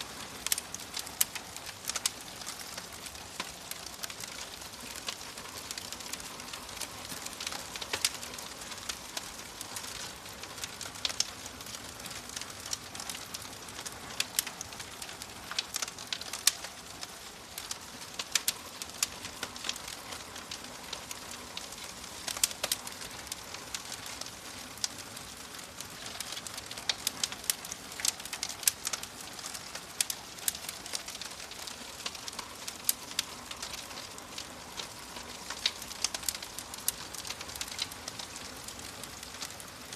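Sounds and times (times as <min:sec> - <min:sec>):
fire crackling: 0:00.0 - 0:39.9
sharp pops and snaps: 0:00.4 - 0:39.6.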